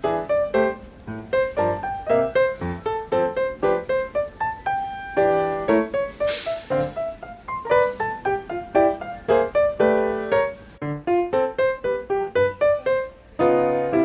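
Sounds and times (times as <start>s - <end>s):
light piano melody: 0.0s - 14.0s.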